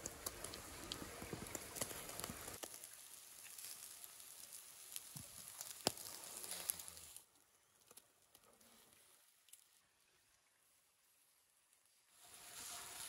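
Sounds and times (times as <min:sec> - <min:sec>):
kebabs sizzling over charcoal: 0:00.0 - 0:09.8, 0:10.6 - 0:13.0.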